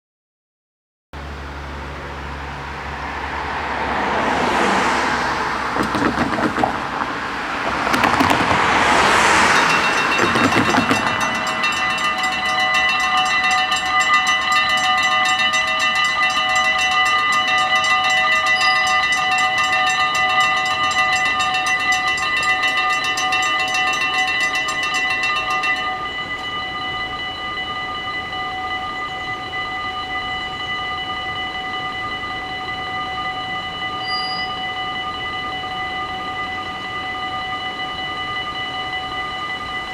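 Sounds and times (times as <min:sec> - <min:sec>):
road vehicles passing: 0:01.2 - 0:39.9
level crossing warning bells: 0:01.3 - 0:39.9.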